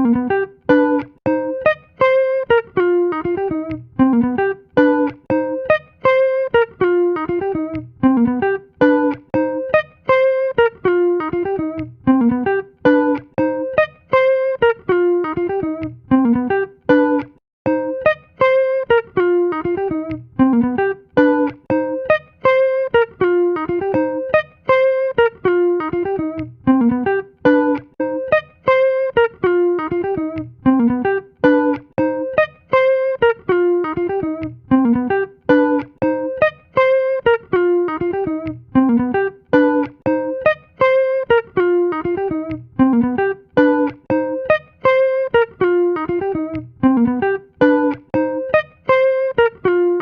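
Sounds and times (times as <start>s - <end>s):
plucked guitar melody: 0.0s - 50.0s.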